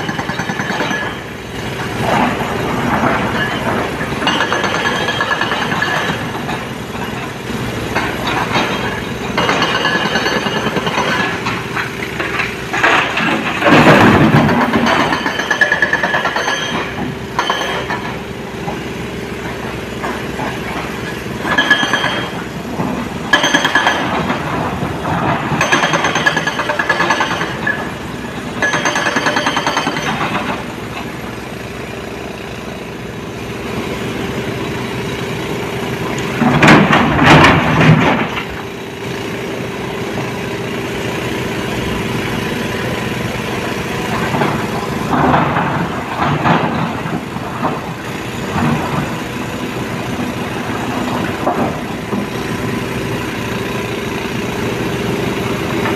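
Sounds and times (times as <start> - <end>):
diesel machinery clanking: 0.0 - 55.9.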